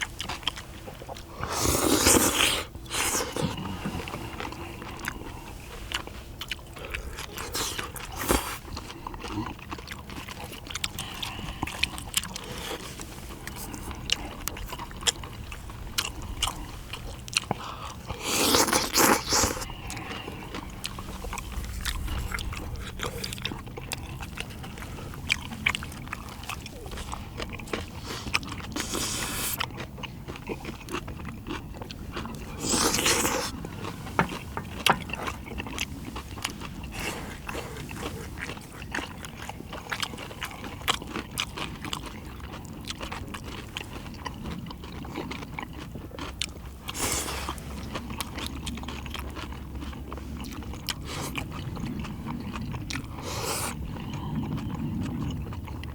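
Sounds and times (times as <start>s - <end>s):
chewing and biting food: 0.0s - 55.9s.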